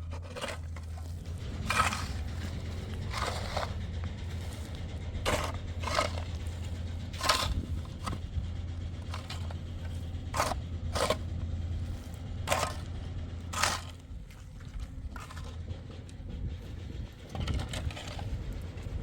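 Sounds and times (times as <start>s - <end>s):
crunching scrapes: 0.0s - 19.0s
low hum: 0.0s - 19.0s.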